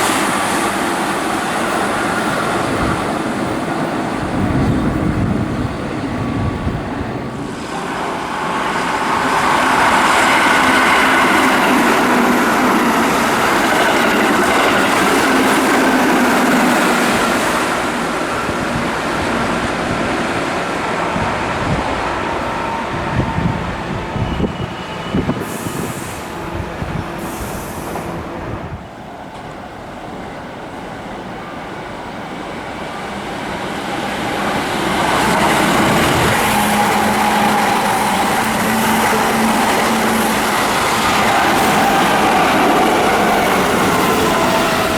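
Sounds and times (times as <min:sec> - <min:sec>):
electric train passing: 0:00.0 - 0:44.9.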